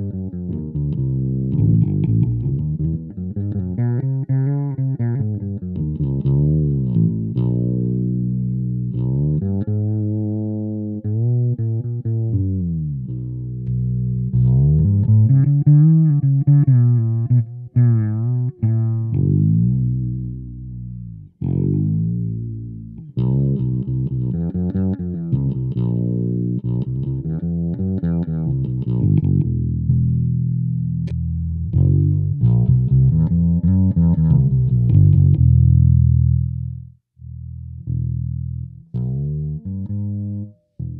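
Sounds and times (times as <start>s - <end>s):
fretless bass sliding notes: 0.0s - 40.9s.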